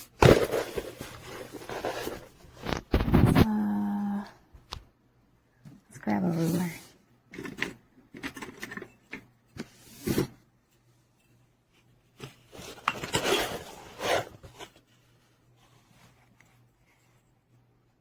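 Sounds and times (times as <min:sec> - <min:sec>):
objects being handled and moved: 0:00.0 - 0:03.6, 0:05.6 - 0:18.0.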